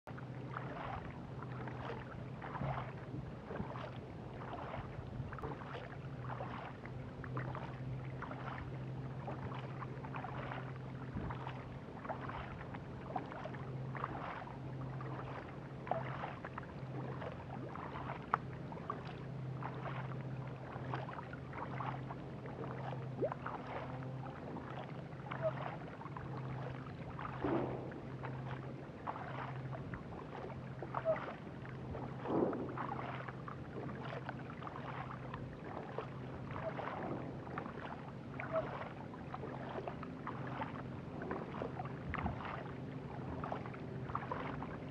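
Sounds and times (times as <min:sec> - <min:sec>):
water running along hull: 0:00.0 - 0:44.9
paddle strokes splashing: 0:00.1 - 0:44.9
steady low hum: 0:00.1 - 0:44.9.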